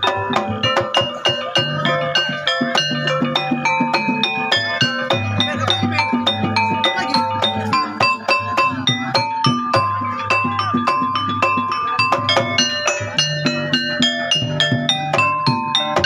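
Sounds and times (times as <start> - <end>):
gamelan music: 0.0 - 16.0.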